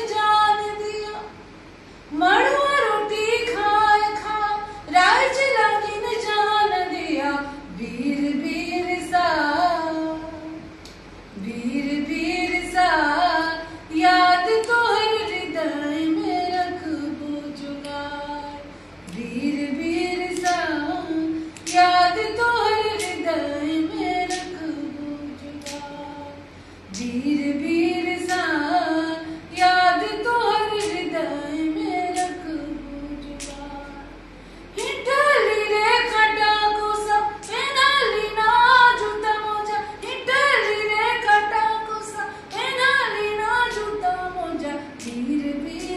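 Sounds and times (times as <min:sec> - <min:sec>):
woman singing unaccompanied: 0:00.0 - 0:01.4, 0:02.1 - 0:45.9.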